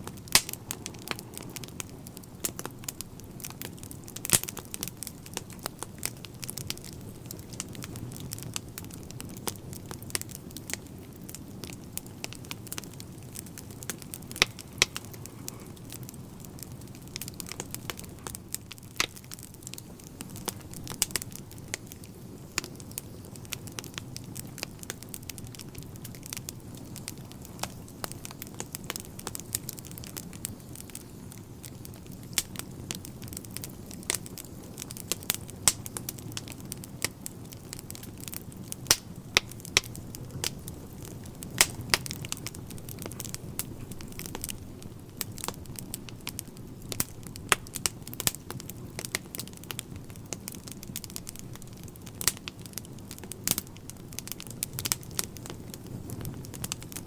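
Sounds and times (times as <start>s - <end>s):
logs crackling and popping: 0.0s - 57.0s
wood fire burning: 0.0s - 57.0s.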